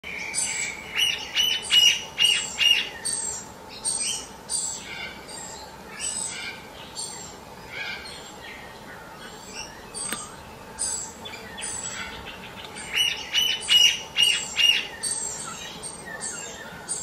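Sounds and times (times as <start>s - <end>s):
birds chirping and singing: 0.1s - 17.0s
loud repeated bird notes: 0.1s - 17.0s.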